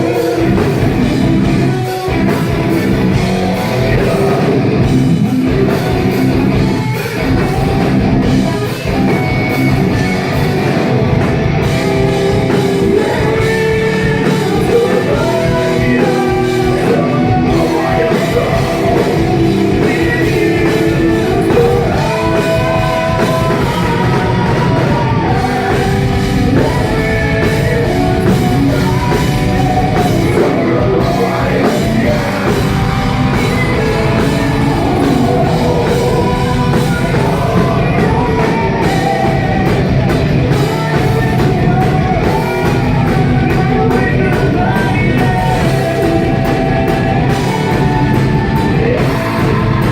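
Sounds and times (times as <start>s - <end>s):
person singing: 0.0s - 10.9s, 11.6s - 49.9s
live metal band playing: 0.0s - 49.9s.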